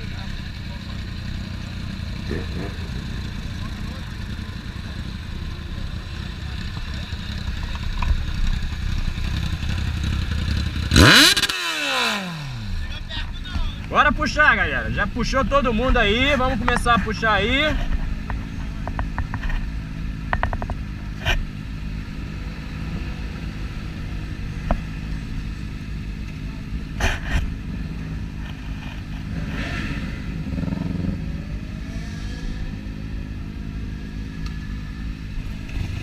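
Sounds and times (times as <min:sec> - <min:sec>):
motorcycle engines idling: 0:00.0 - 0:36.0.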